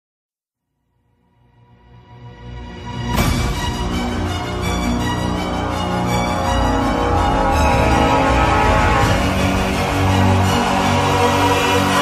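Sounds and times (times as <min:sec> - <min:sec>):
dramatic music with heavy low end: 0:01.5 - 0:12.0.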